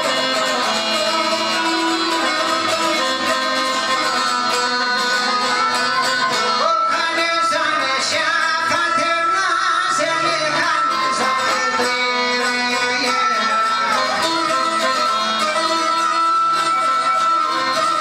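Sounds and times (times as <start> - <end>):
fiddle playing ornamented melody: 0.0 - 18.0
person singing: 0.0 - 18.0
plucked string instruments: 0.0 - 18.0.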